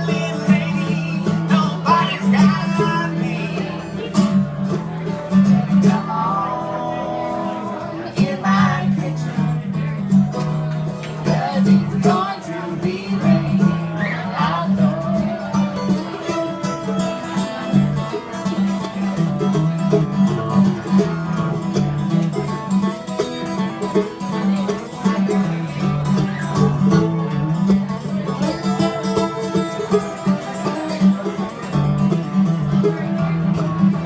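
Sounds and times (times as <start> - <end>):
plucked strings blues tune: 0.0 - 34.0.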